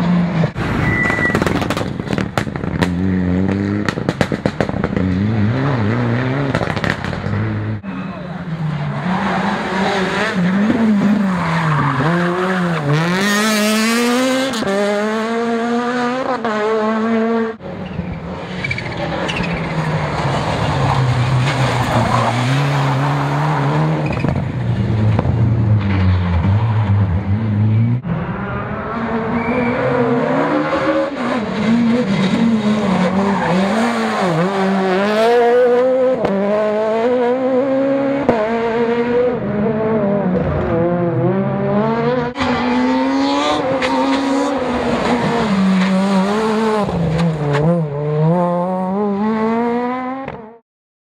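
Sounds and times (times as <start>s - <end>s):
rally car engines revving: 0.0s - 50.6s.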